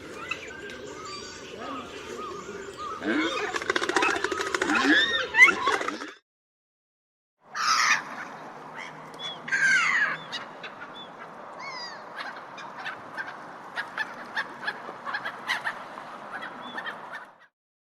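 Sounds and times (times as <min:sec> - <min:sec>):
gulls calling: 0:00.0 - 0:06.2, 0:07.5 - 0:17.5.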